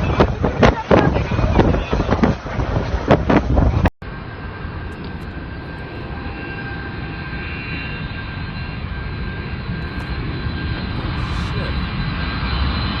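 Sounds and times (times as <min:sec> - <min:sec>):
jet engines whining: 0:00.1 - 0:13.0.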